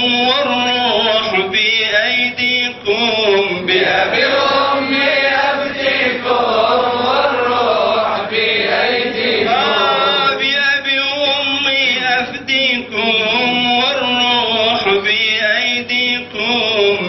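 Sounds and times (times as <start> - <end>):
man chanting unaccompanied: 0.0 - 17.0.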